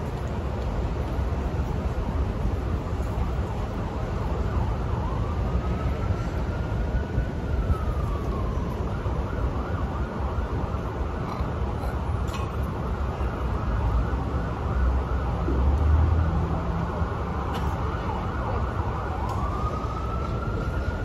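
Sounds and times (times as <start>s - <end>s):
emergency vehicle siren wail: 0.0s - 21.0s
street traffic rumble: 0.0s - 21.0s.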